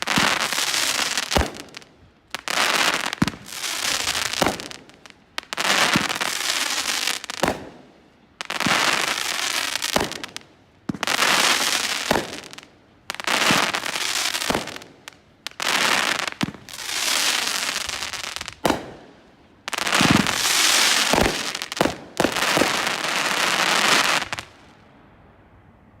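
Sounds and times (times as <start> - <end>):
firework bursting: 0.0 - 24.8.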